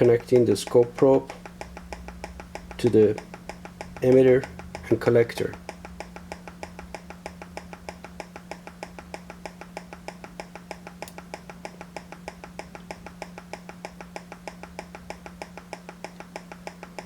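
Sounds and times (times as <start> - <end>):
rapid even ticking: 0.0 - 17.0
steady low hum: 0.0 - 17.0.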